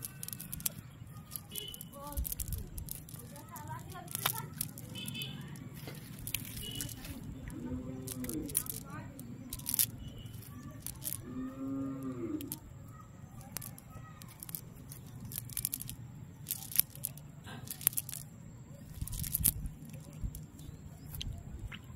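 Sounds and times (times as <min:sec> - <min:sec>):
wet net rustling and clicking: 0:00.0 - 0:12.6, 0:13.3 - 0:21.9.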